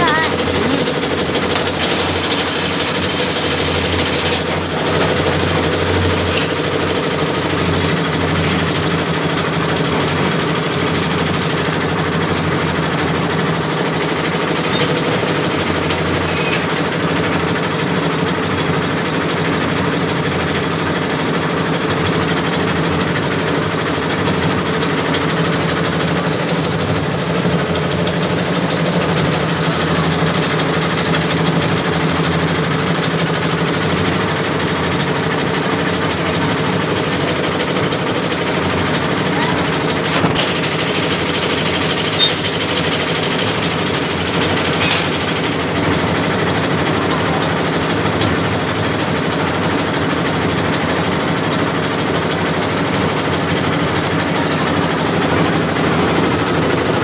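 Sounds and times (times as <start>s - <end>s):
concrete mixer engine running: 0.0s - 57.0s.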